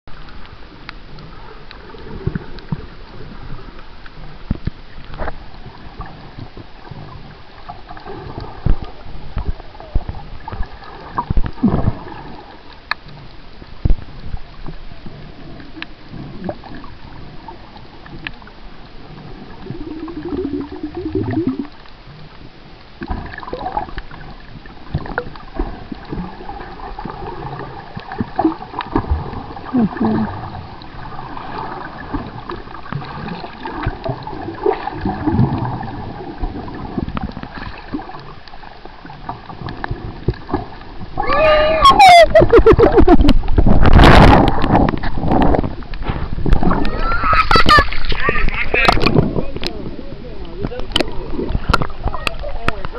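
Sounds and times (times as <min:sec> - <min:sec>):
water sloshing underwater: 0:00.1 - 0:52.9.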